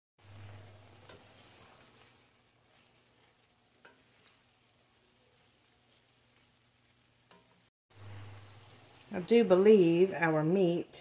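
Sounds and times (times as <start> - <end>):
wooden spatula scraping: 0.2 - 9.3
meat sizzling in a skillet: 0.2 - 10.8.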